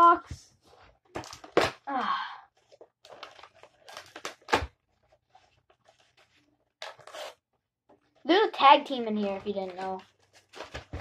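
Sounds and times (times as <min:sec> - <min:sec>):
cardboard rustling and crinkling: 0:00.0 - 0:01.9, 0:02.5 - 0:11.0.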